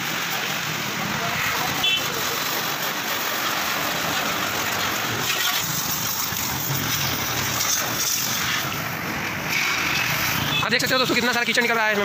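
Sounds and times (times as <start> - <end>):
pressure washer spraying metal: 0.0 - 10.6.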